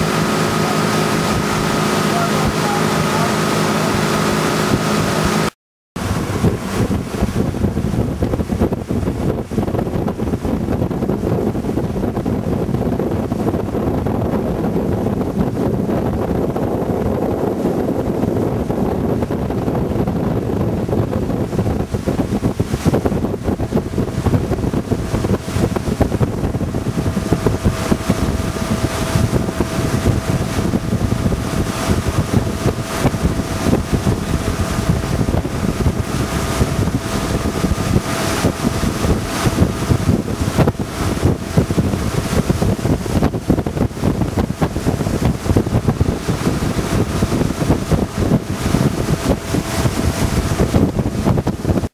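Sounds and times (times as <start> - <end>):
boat wake rushing: 0.0 - 51.9
motorboat engine drone: 0.0 - 51.9
wind buffeting microphone: 0.0 - 51.9.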